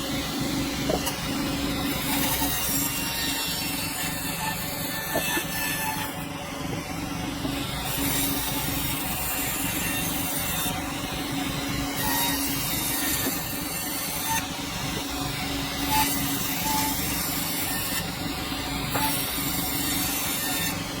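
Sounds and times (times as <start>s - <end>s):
sawmill saw cutting log: 0.0s - 6.4s, 7.4s - 21.0s
constant machine hum: 0.0s - 21.0s.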